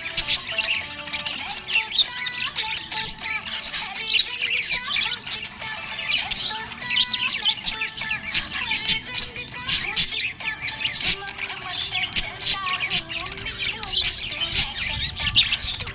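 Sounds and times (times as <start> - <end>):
background music with held notes: 0.0 - 15.9
small parrots chirping: 0.0 - 15.9.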